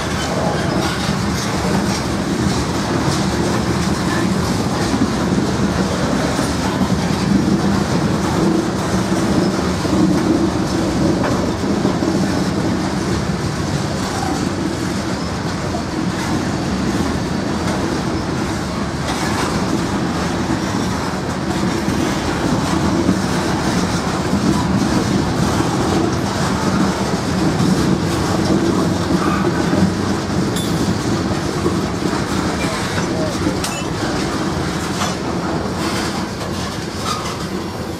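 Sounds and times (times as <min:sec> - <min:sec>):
freight train wheels clacking: 0:00.0 - 0:37.9.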